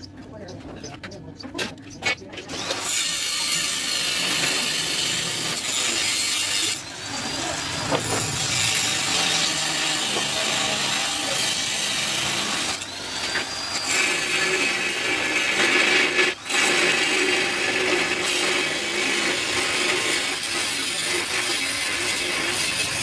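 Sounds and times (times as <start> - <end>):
angle grinder grinding steel: 2.0 - 23.0.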